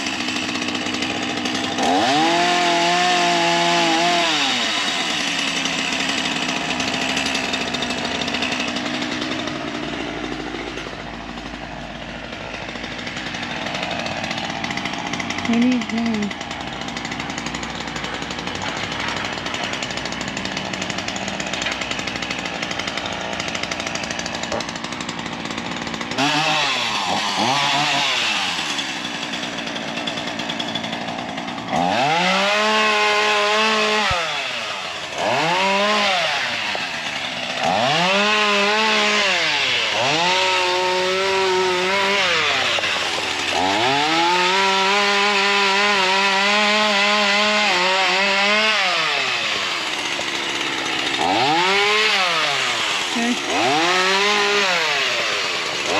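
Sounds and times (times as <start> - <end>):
chainsaw idling and revving: 0.0 - 55.9.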